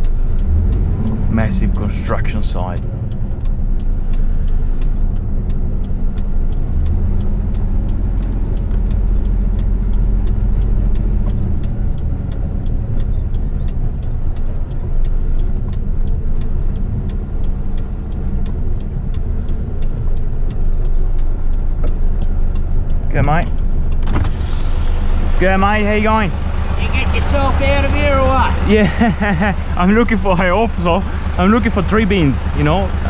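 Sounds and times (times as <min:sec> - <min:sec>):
light regular ticking: 0:00.0 - 0:33.0
truck diesel engine rumbling: 0:00.0 - 0:33.0.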